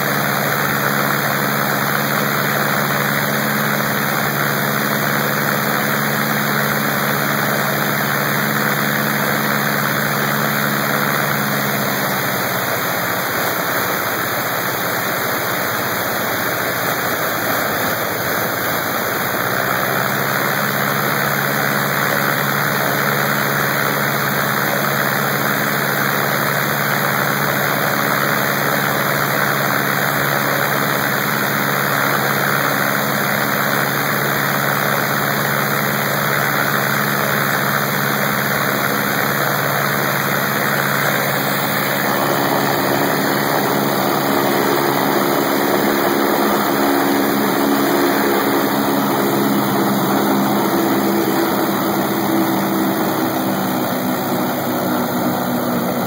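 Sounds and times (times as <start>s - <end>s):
radial aircraft engine running: 0.0s - 56.0s.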